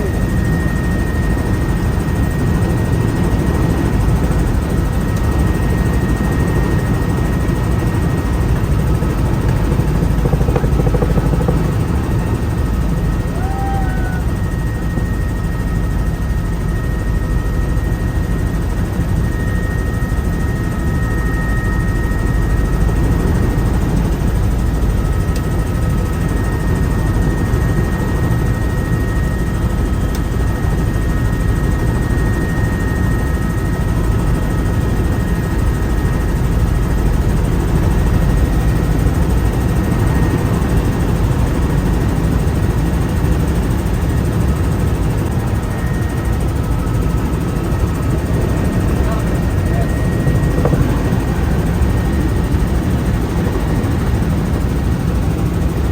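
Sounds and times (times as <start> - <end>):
helicopter rotor and engine: 0.0 - 55.9.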